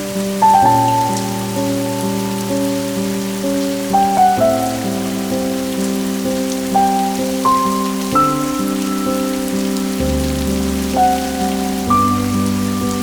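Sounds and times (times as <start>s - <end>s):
falling rain hiss: 0.0s - 13.0s
soft slow melodic music: 0.0s - 13.0s.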